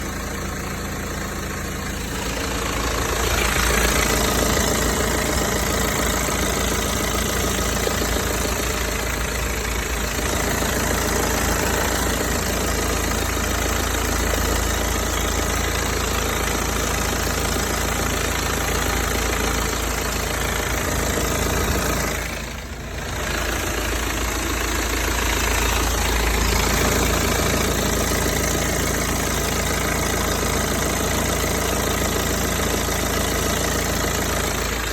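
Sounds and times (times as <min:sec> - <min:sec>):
diesel engine idling: 0:00.0 - 0:34.9
strange intermittent engine noise: 0:00.0 - 0:34.9.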